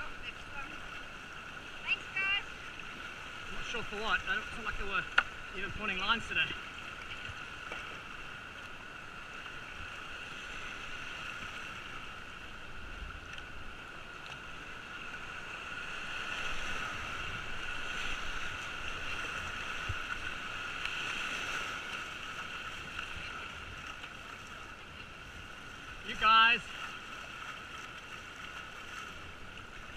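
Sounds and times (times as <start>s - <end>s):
white water rushing and splashing: 0.0s - 29.9s.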